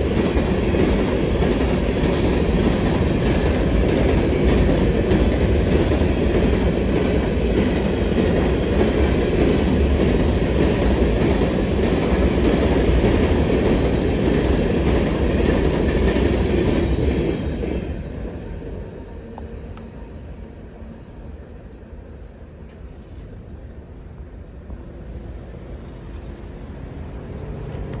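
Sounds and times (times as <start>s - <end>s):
freight train wheels rumbling on rail: 0.0s - 28.0s.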